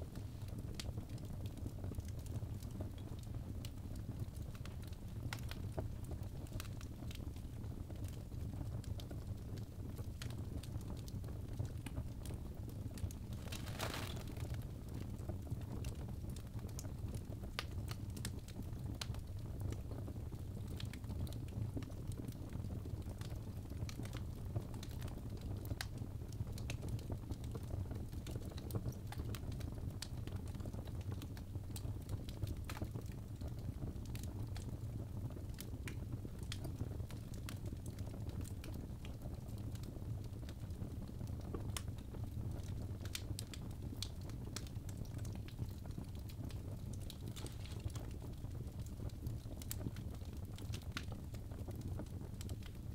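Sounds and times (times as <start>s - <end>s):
logs crackling and popping in fire: 0.0s - 52.9s
low rumble of flames: 0.0s - 52.9s.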